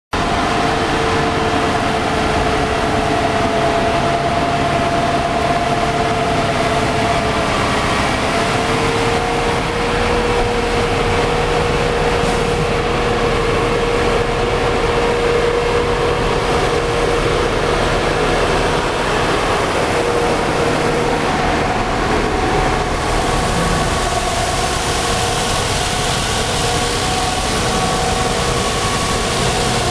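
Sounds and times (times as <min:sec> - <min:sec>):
tractor engine running under load: 0:00.2 - 0:29.9.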